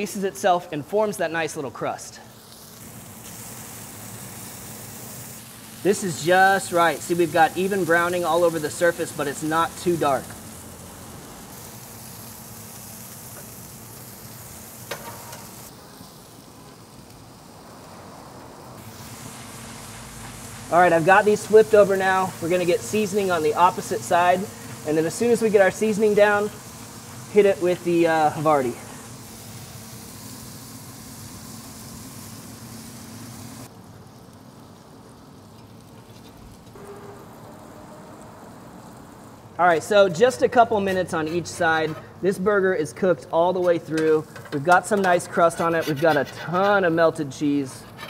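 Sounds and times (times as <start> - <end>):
burger patties sizzling in oil: 1.7 - 48.0.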